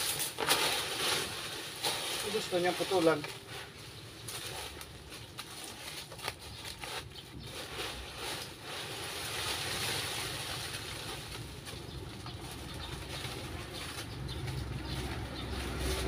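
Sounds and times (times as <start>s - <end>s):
dry leaves rustling: 0.0s - 16.0s.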